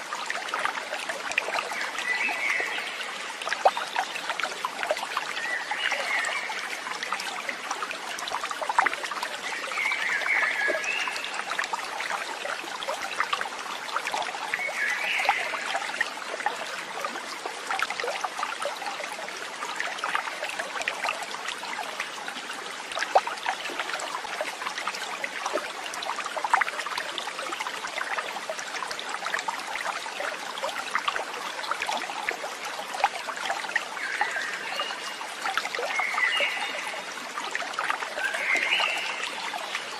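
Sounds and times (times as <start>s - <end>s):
water babbling over stones: 0.0s - 39.9s.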